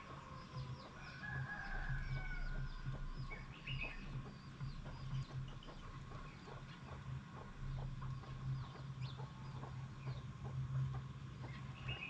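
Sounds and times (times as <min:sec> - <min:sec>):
chickens clucking: 0:00.0 - 0:12.0
sparrows chirping: 0:00.0 - 0:12.0.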